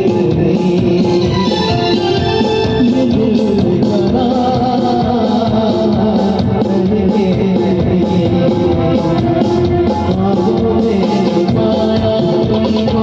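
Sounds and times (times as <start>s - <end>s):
loud music with steady beat: 0.0s - 13.0s.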